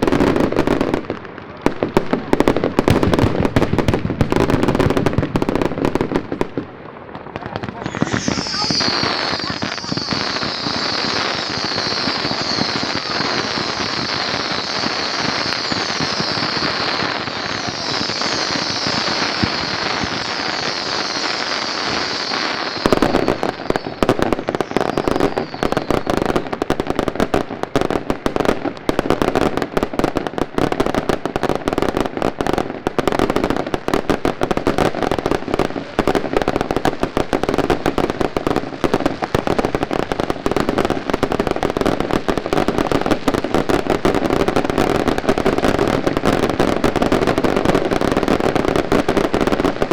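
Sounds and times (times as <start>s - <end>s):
fireworks hissing and whistling: 0.0s - 6.2s, 7.4s - 49.9s
rapid firecracker bangs: 0.0s - 49.9s.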